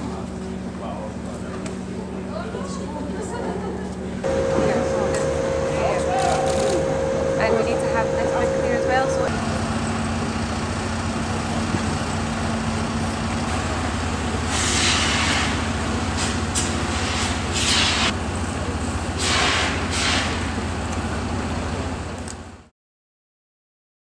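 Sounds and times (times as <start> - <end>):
engine running low rumble: 0.0 - 22.7.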